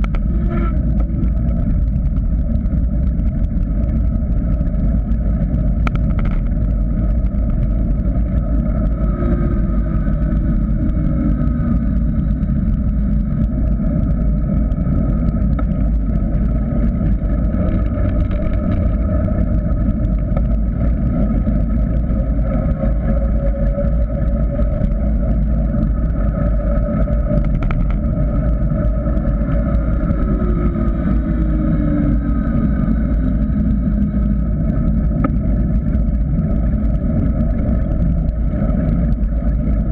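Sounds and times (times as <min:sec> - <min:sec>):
bike tyre noise on asphalt: 0:00.0 - 0:39.9
faint hum: 0:00.0 - 0:39.9
wind rumble: 0:00.0 - 0:39.9.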